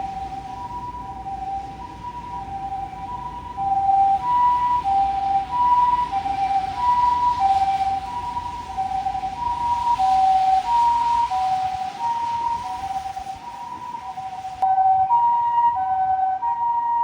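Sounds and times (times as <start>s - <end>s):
ambulance two-tone siren: 0.0s - 17.0s.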